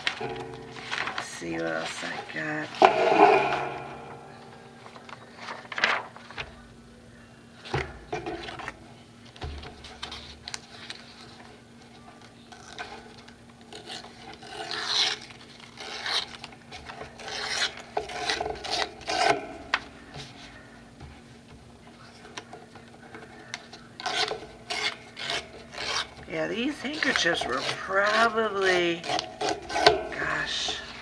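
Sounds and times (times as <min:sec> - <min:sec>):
paper rustling and rubbing: 0:00.0 - 0:06.6, 0:09.7 - 0:21.3, 0:21.9 - 0:31.0.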